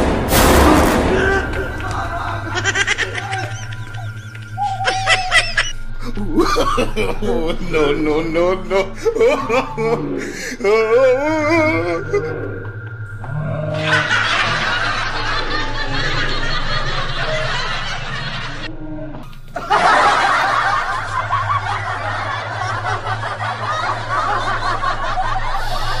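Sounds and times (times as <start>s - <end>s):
low steady hum: 0.0s - 26.0s
shrill cackling laughter: 1.2s - 13.0s, 13.8s - 18.7s, 19.6s - 26.0s.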